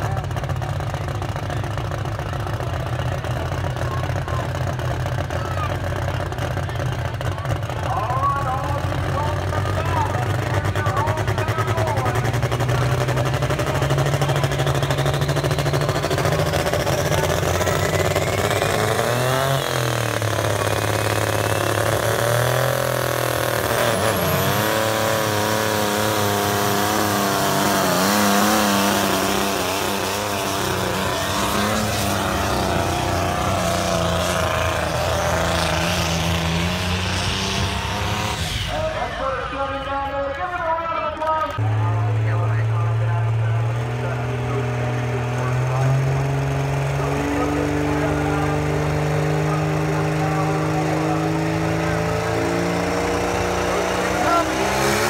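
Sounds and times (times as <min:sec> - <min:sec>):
tractor engine revving: 0:00.0 - 0:55.0.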